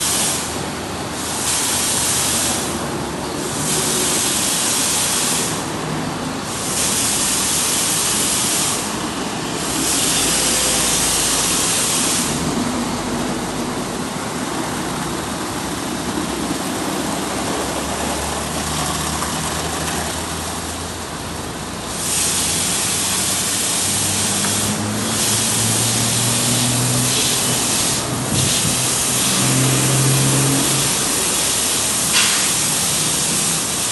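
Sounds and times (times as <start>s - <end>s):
water spray hissing: 0.0s - 33.9s.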